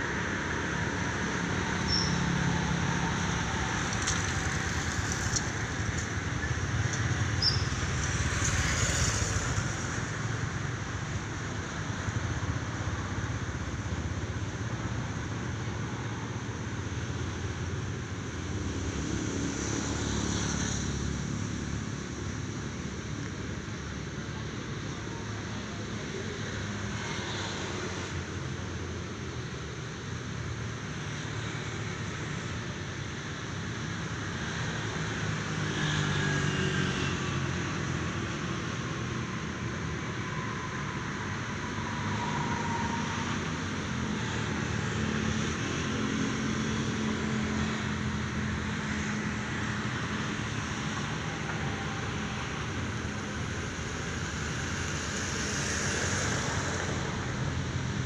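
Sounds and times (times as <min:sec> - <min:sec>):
traffic on wet road: 0:00.0 - 0:58.0.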